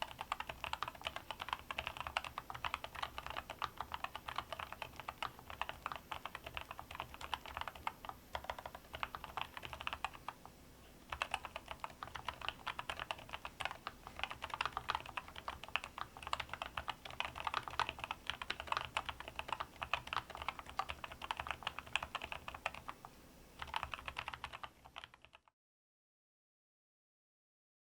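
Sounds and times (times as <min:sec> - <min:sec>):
mechanical keyboard typing: 0:00.0 - 0:10.4, 0:11.1 - 0:23.0, 0:23.6 - 0:25.5.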